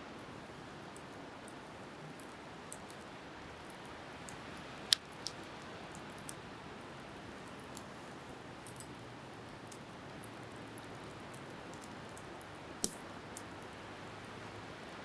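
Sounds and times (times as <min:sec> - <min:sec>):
wind: 0:00.0 - 0:15.0
campfire crackling and popping: 0:00.2 - 0:15.0.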